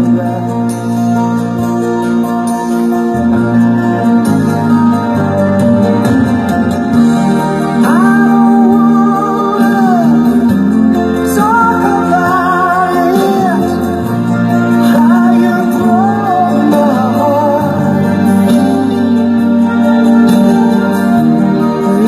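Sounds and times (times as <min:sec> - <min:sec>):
slow ballad through small speaker: 0:00.0 - 0:22.0.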